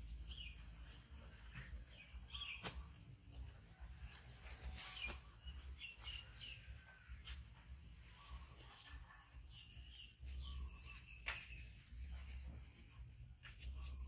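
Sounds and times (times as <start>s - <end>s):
birds chirping: 0.0s - 12.8s.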